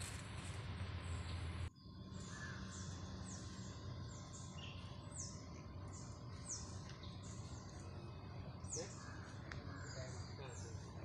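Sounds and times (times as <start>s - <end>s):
lower bird chirps: 1.0s - 11.0s.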